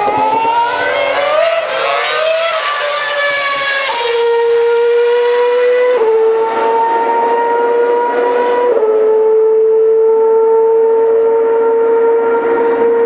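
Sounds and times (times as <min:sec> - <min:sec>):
racing car engine accelerating: 0:00.0 - 0:13.0.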